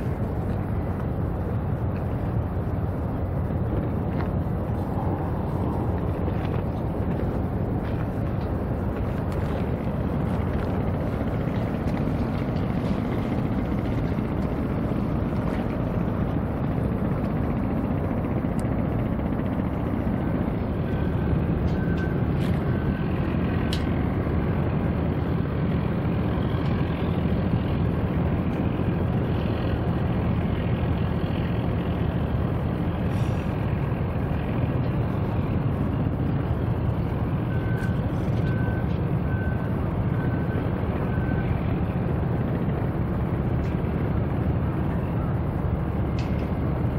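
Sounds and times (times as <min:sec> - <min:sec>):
low background rumble: 0:00.0 - 0:46.9.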